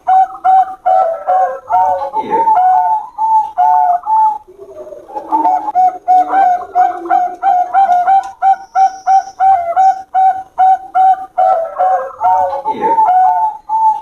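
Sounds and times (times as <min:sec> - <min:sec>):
dove cooing fast: 0:00.0 - 0:14.0
lower softer coo: 0:00.1 - 0:14.0.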